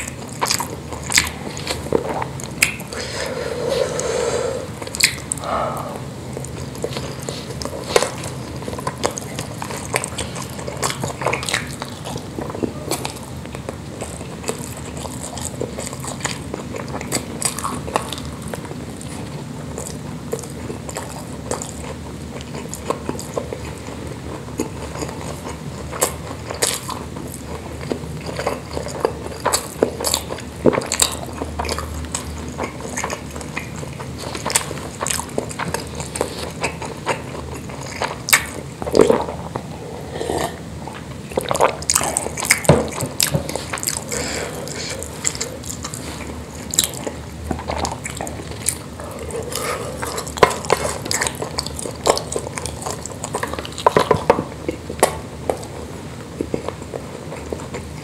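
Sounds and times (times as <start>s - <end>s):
chewing mouth sounds: 0.0s - 58.0s.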